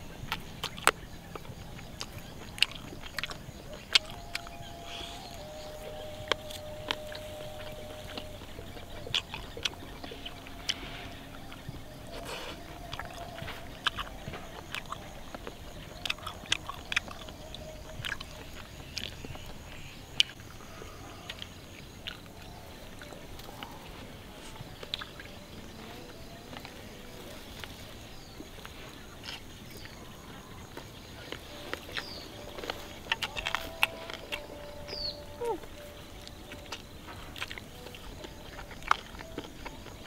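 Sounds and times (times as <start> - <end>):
chewing food close-up: 0.0 - 40.0.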